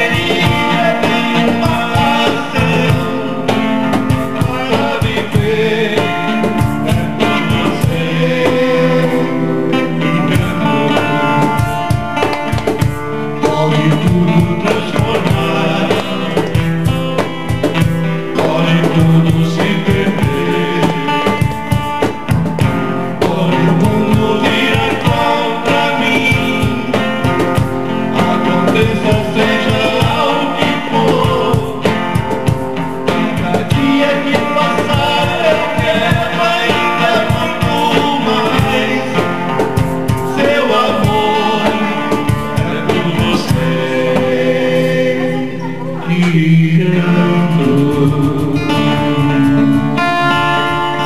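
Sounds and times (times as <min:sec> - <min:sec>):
guitar: 0:00.0 - 0:51.0
man singing: 0:00.0 - 0:51.0
steady drum beat: 0:00.0 - 0:51.0.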